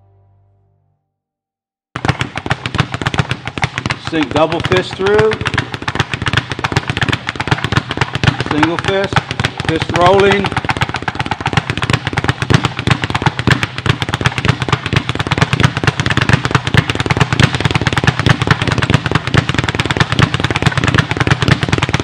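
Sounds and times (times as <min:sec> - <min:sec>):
speed bag rattling punches: 0:02.0 - 0:22.0.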